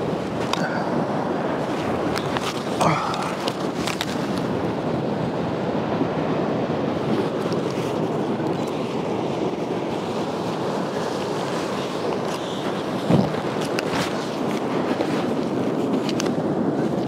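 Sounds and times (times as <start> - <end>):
ocean surf breaking on beach: 0.0 - 17.0.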